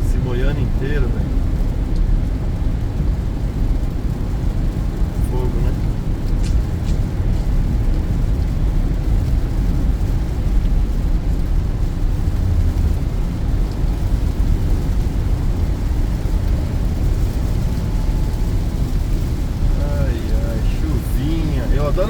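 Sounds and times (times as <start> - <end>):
car cabin rumble in rain: 0.0 - 22.0.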